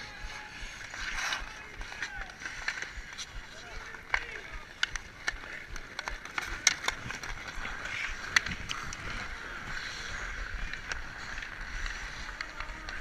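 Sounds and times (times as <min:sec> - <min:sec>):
ice skates scraping on ice: 0:00.0 - 0:13.0
hockey stick and puck clicks: 0:00.1 - 0:13.0.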